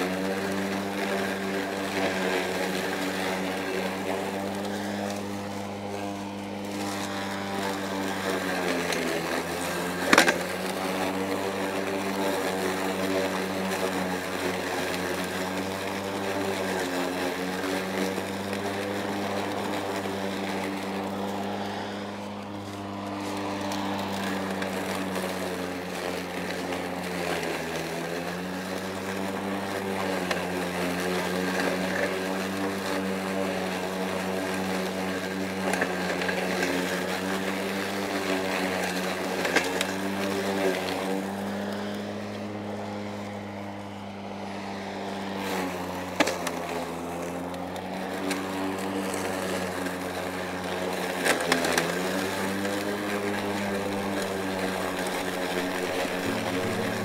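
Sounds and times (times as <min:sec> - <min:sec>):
electric lawn mower humming: 0:00.0 - 0:57.0.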